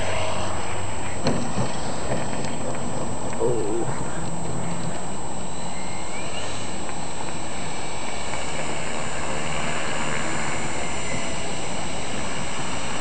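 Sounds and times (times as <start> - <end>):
model plane motor and propeller: 0.0 - 13.0.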